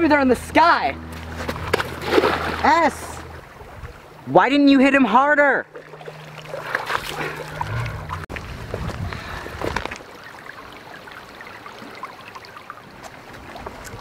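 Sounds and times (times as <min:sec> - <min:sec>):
water rushing: 0:00.6 - 0:14.0
water splashing and sloshing: 0:01.0 - 0:14.0.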